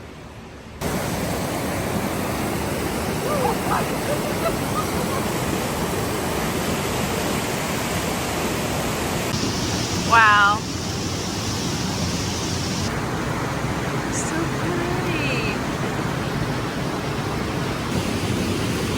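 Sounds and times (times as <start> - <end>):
waterfall roaring: 0.8 - 18.9.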